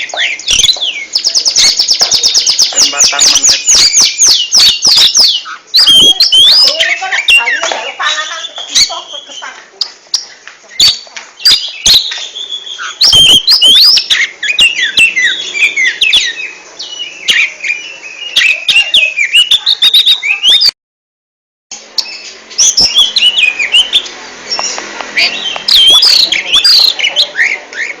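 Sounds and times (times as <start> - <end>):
bird singing whistled notes: 0.0 - 9.4, 10.2 - 20.7, 22.0 - 28.0.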